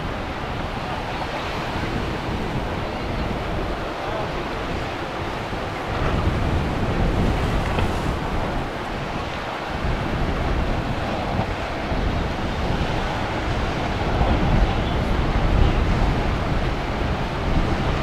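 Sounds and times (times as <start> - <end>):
ocean waves breaking: 0.0 - 18.0
wind buffeting microphone: 0.0 - 18.0.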